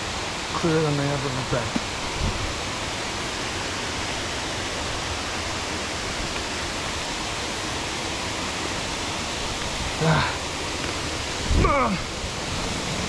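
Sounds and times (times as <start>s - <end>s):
rushing stream water: 0.0s - 13.0s.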